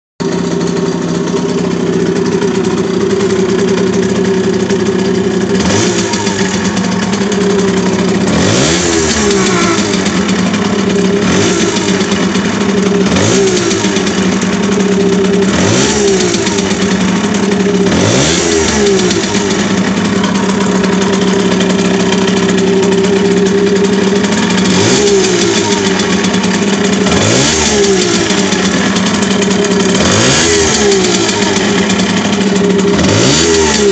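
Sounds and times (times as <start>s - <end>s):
moped engine idling and revving: 0.2s - 33.9s.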